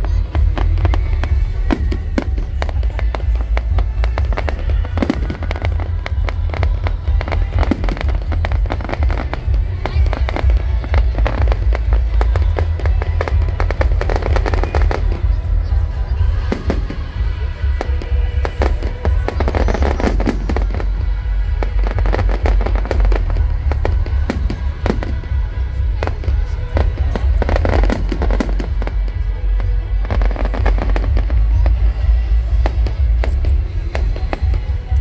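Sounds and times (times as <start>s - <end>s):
fireworks bangs and crackles: 0.0s - 35.0s
low rumble: 0.0s - 35.0s.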